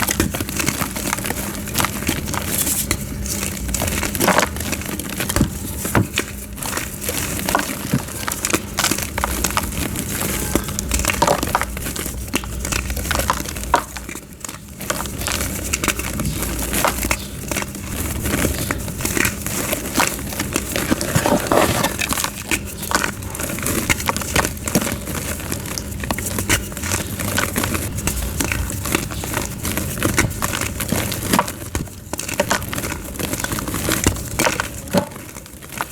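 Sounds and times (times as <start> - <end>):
chalk being crushed: 0.0 - 35.9.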